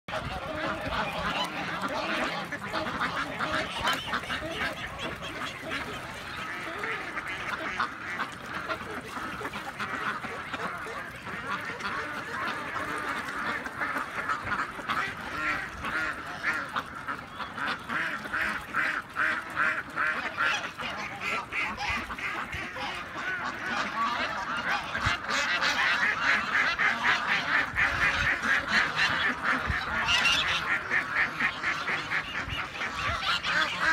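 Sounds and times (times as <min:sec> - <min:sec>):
ducks quacking: 0:00.1 - 0:33.9.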